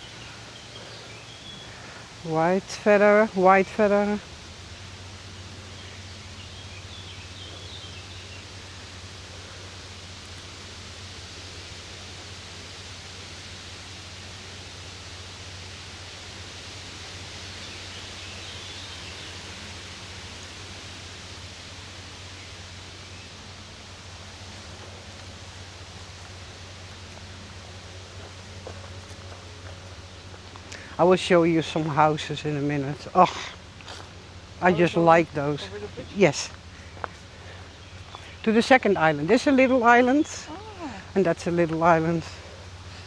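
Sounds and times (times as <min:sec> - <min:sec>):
even hiss: 0:00.0 - 0:43.0
low steady hum: 0:00.0 - 0:43.0.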